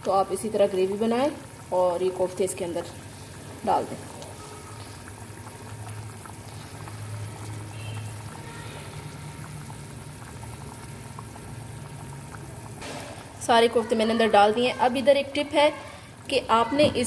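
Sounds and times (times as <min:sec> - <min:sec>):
gravy bubbling in a pan: 0:00.0 - 0:17.0.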